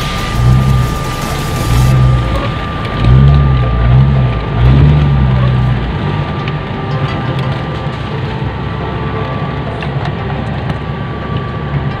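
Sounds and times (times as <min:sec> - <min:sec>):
vehicle engine from inside cab: 0:00.0 - 0:12.0.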